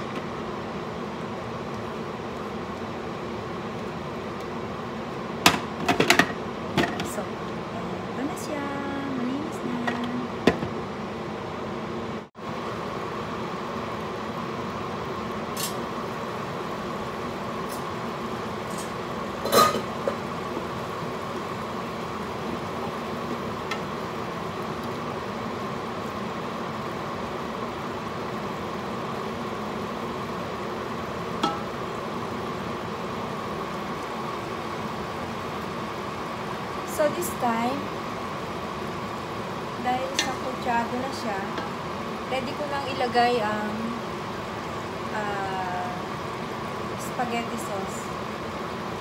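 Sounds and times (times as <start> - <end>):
steady background hiss: 0.0 - 49.0.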